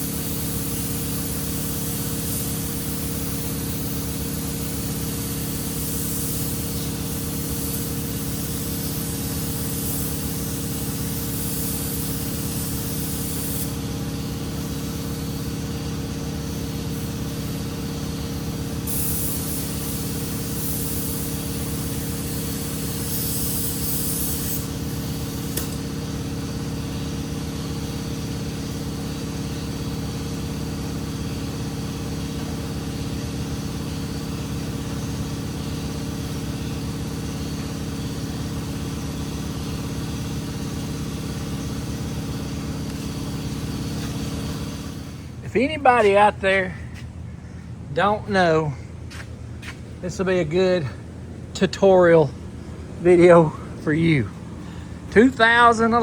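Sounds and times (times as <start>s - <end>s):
paint spray gun hissing: 0.0s - 47.2s
machine hum: 0.0s - 56.0s.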